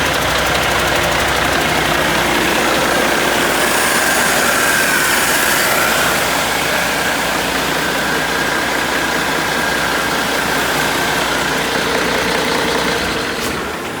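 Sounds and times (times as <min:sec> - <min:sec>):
diesel engine running: 0:00.0 - 0:14.0
thin high whine: 0:00.7 - 0:12.7.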